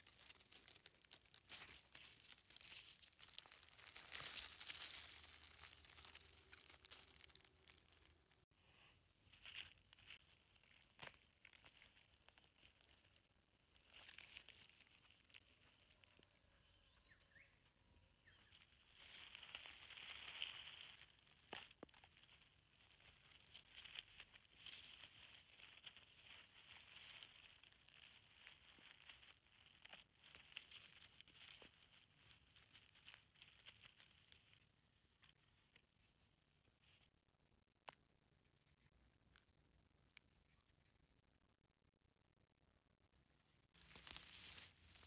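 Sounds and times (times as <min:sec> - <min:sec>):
rustling dry leaves and twigs: 0:00.0 - 0:37.1, 0:43.7 - 0:45.0.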